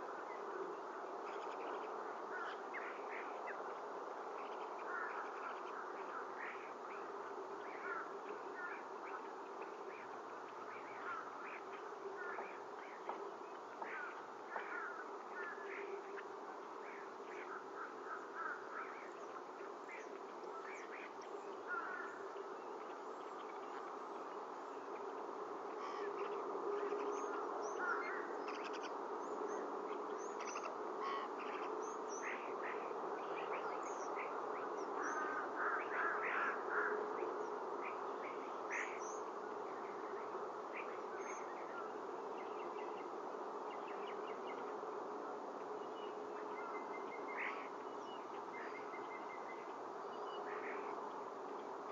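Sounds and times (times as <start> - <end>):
low hum and hiss: 0.0 - 51.9.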